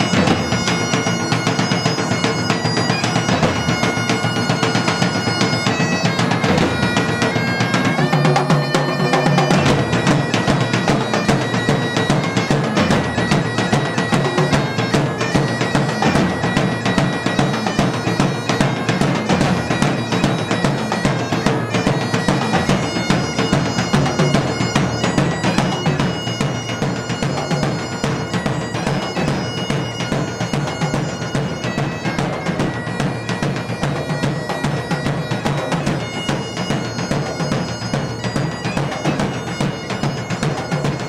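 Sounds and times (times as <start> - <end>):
bagpipe music: 0.0 - 41.0.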